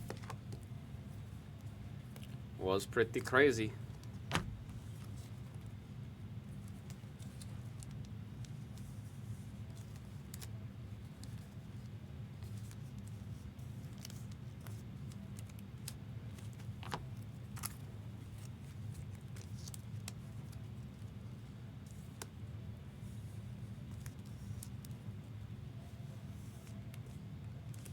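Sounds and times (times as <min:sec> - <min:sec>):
plastic card sleeves handled: 0:00.0 - 0:27.9
steady low hum: 0:00.0 - 0:27.9.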